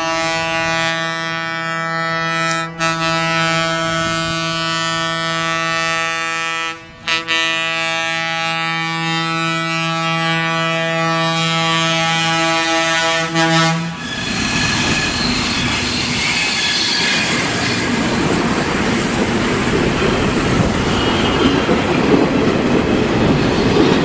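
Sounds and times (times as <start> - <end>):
train horn low blasts: 0.0 - 17.9, 20.5 - 21.9.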